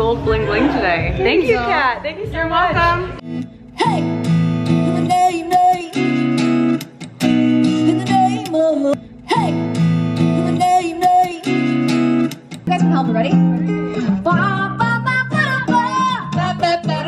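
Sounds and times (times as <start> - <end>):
strummed acoustic guitar: 3.2 - 17.0.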